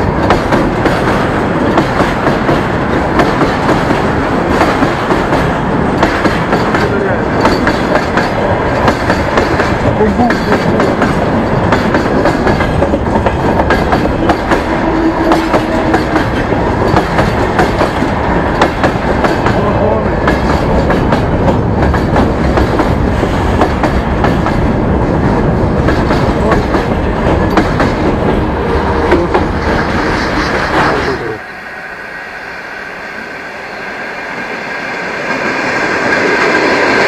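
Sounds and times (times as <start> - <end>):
wheels clacking over rail joints: 0.0 - 24.8, 25.7 - 31.2
freight train passing: 0.0 - 37.0.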